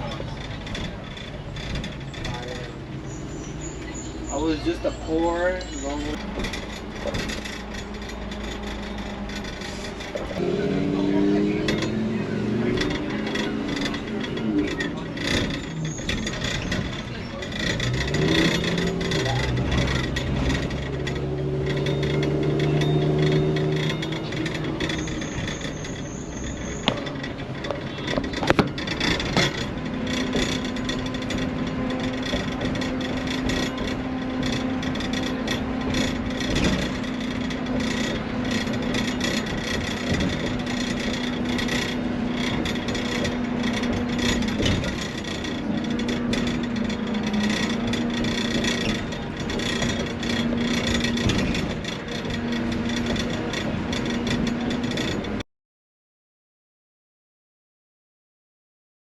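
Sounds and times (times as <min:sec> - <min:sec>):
rattle of small clicks and knocks: 0:00.0 - 0:55.4
vehicle engine humming: 0:00.0 - 0:55.4.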